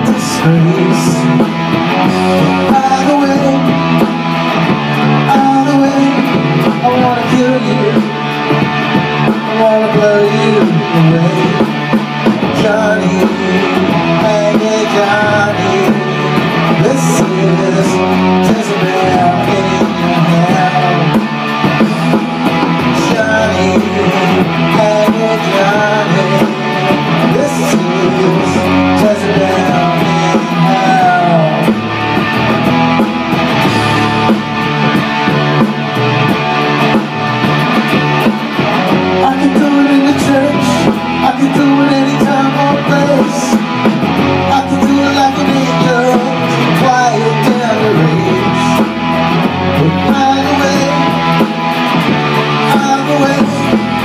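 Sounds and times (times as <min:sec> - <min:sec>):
electric guitar with bent notes: 0:00.0 - 0:54.0
programmed bass and drums: 0:00.0 - 0:54.0.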